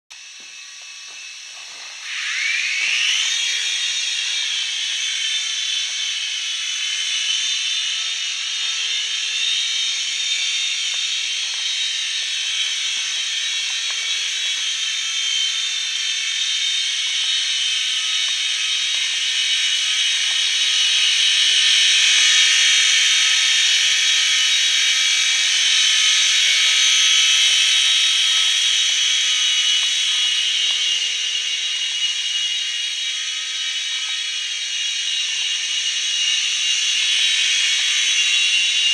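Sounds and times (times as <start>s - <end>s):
model helicopter rotors whining: 0.2s - 38.9s.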